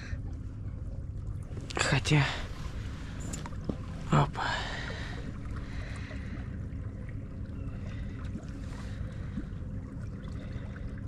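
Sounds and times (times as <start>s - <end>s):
wind and waves rumble: 0.0s - 11.0s.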